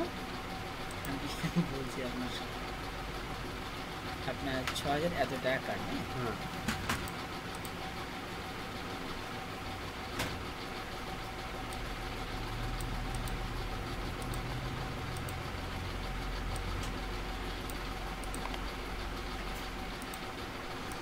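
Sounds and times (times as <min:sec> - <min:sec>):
low engine-like rumble: 0:00.0 - 0:21.0.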